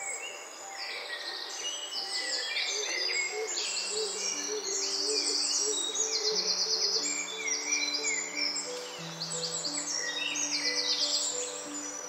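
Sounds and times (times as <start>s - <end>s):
low sustained background music: 0.0s - 12.0s
songbirds singing and calling: 0.0s - 12.0s.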